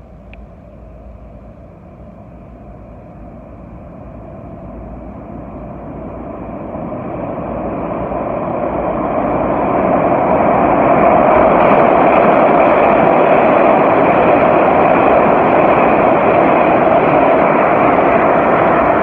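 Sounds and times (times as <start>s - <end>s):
subway train on rails: 0.0s - 19.0s.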